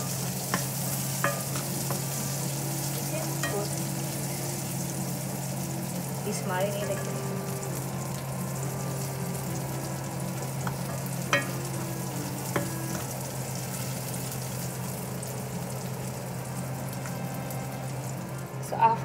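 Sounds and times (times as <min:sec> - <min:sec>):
onion sizzling in oil: 0:00.0 - 0:19.0
steady low hum: 0:00.0 - 0:19.0.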